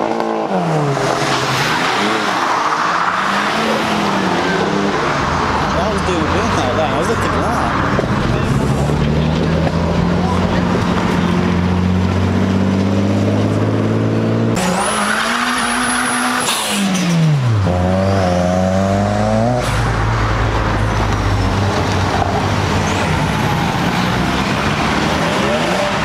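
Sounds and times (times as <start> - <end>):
car engines revving: 0.0 - 26.0
tyre and road noise: 0.0 - 26.0.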